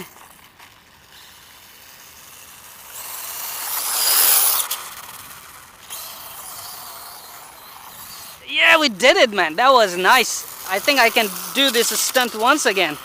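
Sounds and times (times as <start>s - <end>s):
toy dirt bike motor running: 0.0s - 13.0s.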